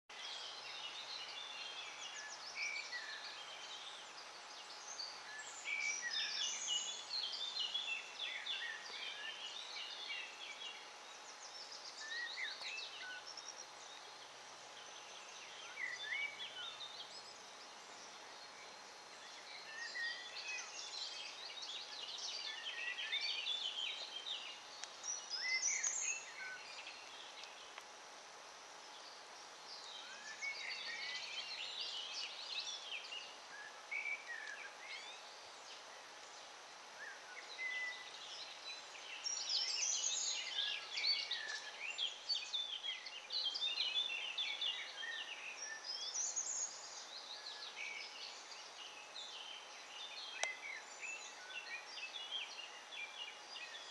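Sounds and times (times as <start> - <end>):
songbirds singing: 0.1 - 53.9.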